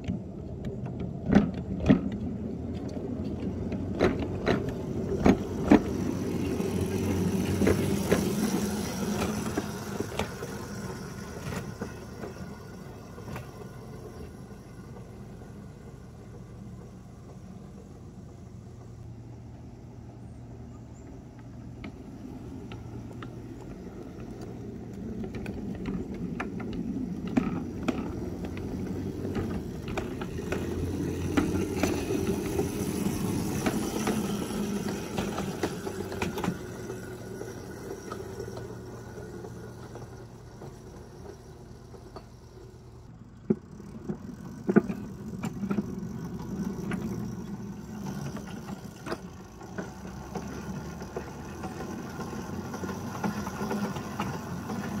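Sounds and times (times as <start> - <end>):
miniature train rumble and whir: 0.0 - 55.0.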